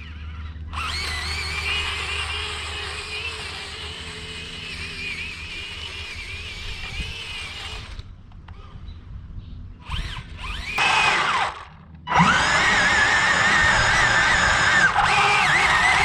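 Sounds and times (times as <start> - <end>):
electric motors whining: 0.0 - 8.7, 9.8 - 16.0.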